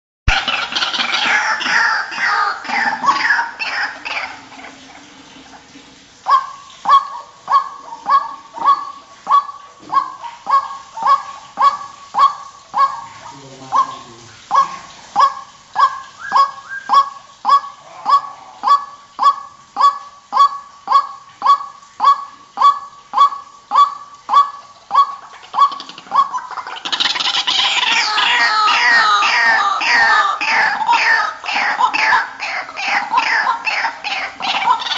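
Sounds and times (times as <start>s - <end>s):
overlapping bird calls: 0.3s - 34.9s
bird honking call: 6.3s - 34.9s.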